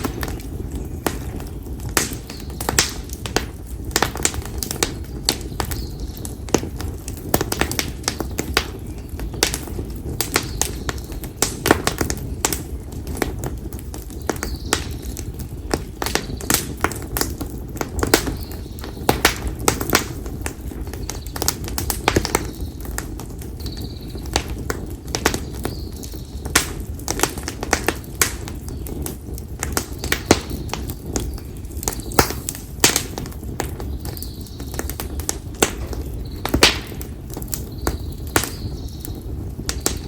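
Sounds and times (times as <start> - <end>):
campfire crackling and popping: 0.0 - 40.0
flames rustling: 0.0 - 40.0.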